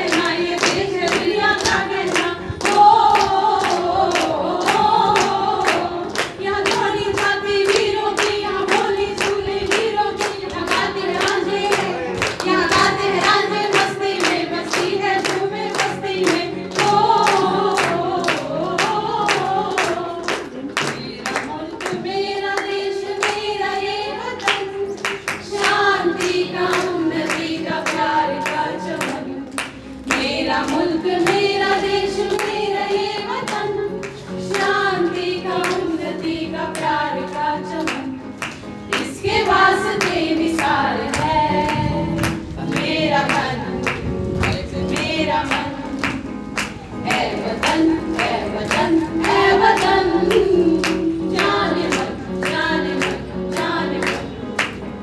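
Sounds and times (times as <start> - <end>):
women singing in unison: 0.0 - 38.2, 38.9 - 46.2, 46.9 - 54.7
clapping steady beat: 0.0 - 55.0.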